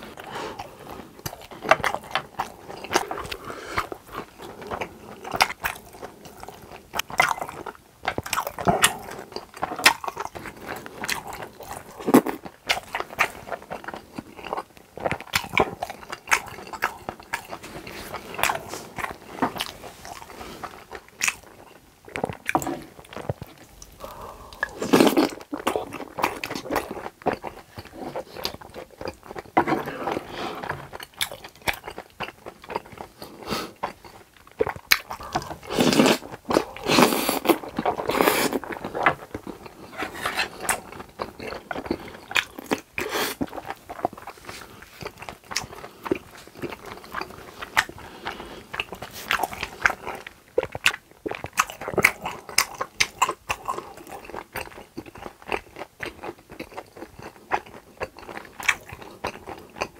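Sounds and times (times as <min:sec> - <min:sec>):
wet chewing and mouth clicks: 0:00.0 - 0:59.9.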